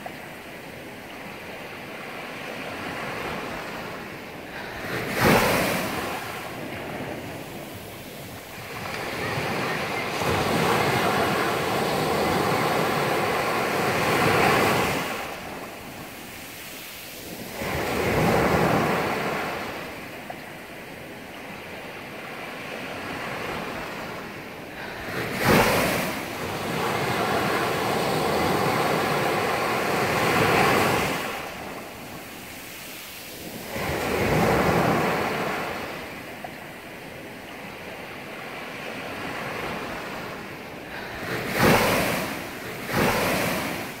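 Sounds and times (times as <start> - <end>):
small waves breaking on shore: 0.0 - 44.0.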